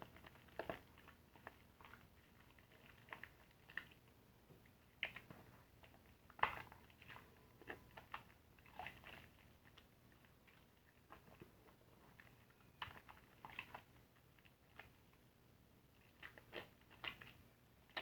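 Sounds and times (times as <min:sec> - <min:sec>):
wet sponge squishing: 0:00.0 - 0:18.0.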